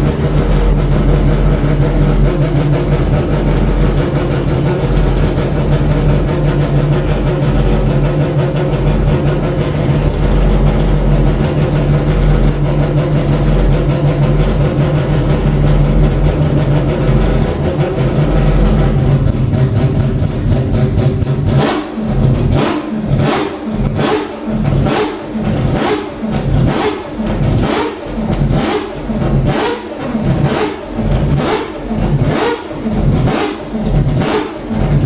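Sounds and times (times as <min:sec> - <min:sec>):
race engine idling and revving: 0:00.0 - 0:35.0.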